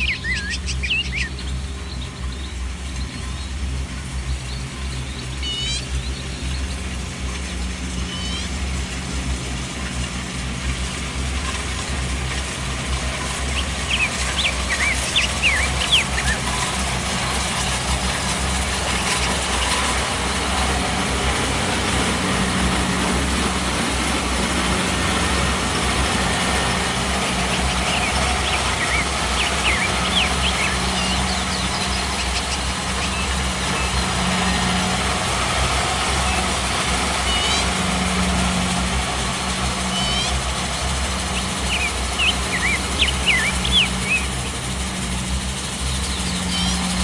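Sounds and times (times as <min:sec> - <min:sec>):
combine harvester diesel engine: 0:00.0 - 0:47.0.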